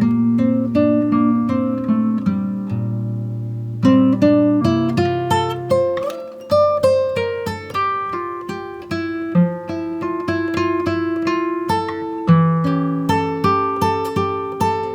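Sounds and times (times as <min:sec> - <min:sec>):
plucked acoustic guitar: 0:00.0 - 0:14.9.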